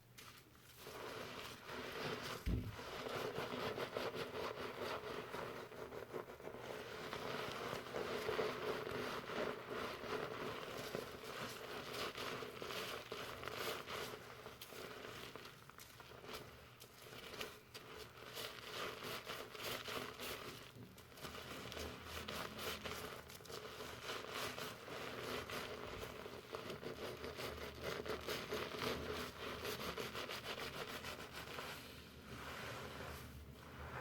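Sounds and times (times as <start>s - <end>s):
shampoo lather rustling in hair: 0.2s - 34.0s.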